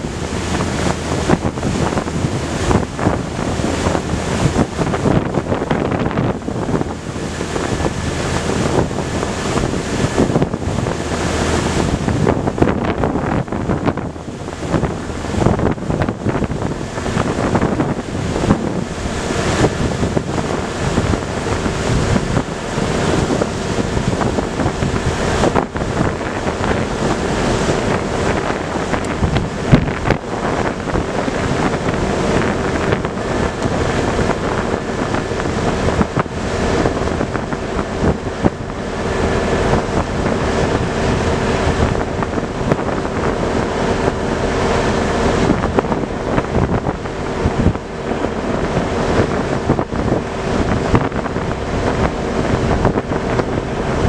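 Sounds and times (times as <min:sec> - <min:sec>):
diesel engine humming: 0:00.0 - 0:54.0
propeller wash churning water: 0:00.0 - 0:54.0
wind buffeting microphone: 0:00.0 - 0:54.0.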